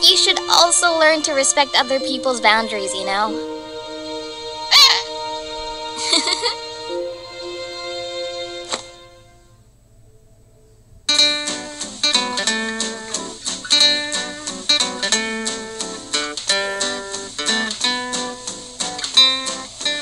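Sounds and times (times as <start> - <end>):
plucked guitar notes: 0.0 - 9.3, 11.1 - 20.0.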